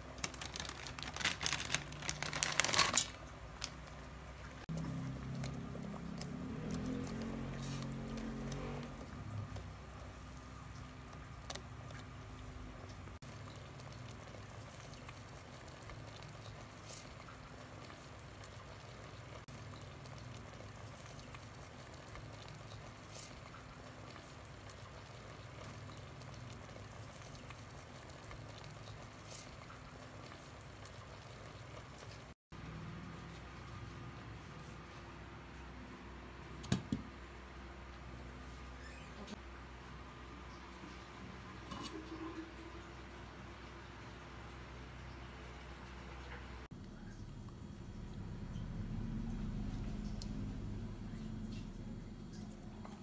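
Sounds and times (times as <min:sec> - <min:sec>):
broth bubbling in a pot: 0:00.0 - 0:35.0, 0:36.4 - 0:53.0.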